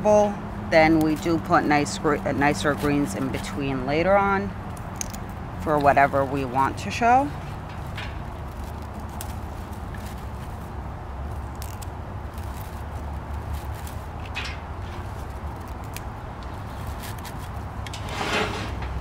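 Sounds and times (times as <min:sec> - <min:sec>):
low outdoor rumble: 0:00.0 - 0:19.0
fern fronds rustling: 0:01.1 - 0:19.0.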